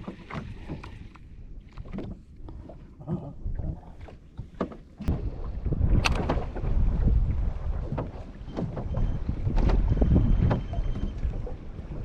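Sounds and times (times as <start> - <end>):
rumble of wind and water: 0.0 - 12.0.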